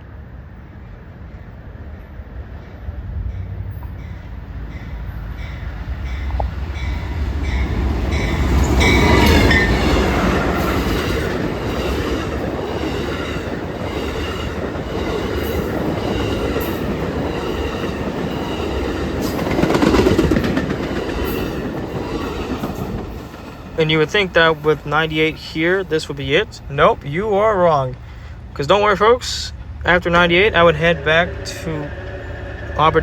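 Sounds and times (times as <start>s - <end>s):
train wheels rumbling on rail: 0.0s - 33.0s
wheels clicking over rail joints: 5.4s - 33.0s.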